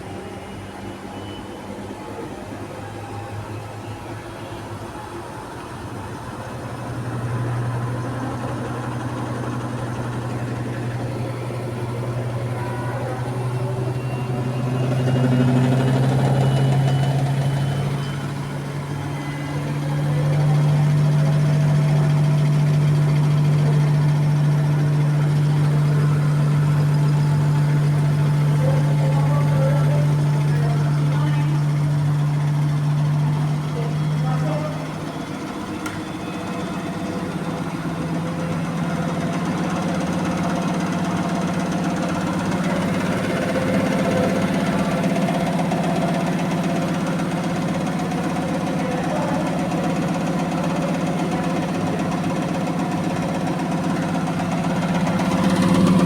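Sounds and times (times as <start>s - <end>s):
washing machine motor hum: 3.0s - 56.0s.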